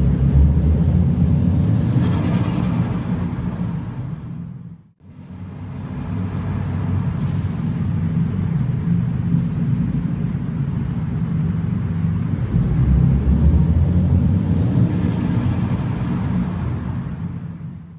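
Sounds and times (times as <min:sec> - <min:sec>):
car engine exhaust drone: 0:00.0 - 0:17.9.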